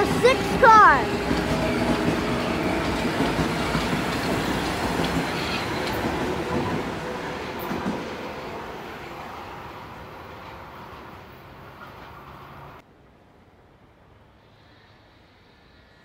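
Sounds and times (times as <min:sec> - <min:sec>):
train wheels rumbling on rails: 0:00.0 - 0:12.8.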